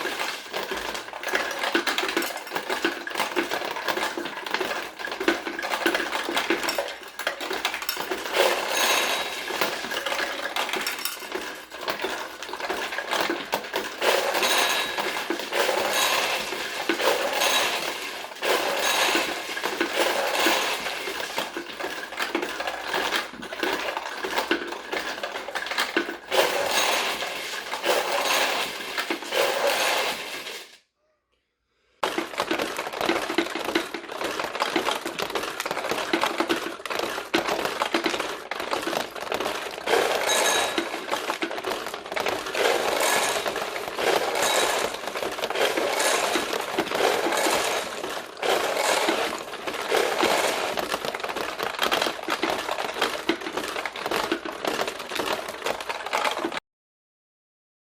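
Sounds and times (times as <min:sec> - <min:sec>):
pachinko balls clattering: 0:00.0 - 0:30.8, 0:32.0 - 0:56.6.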